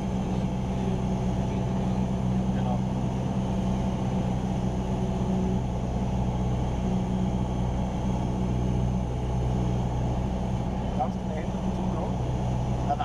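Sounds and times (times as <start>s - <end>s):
small plane engine droning: 0.0s - 13.0s.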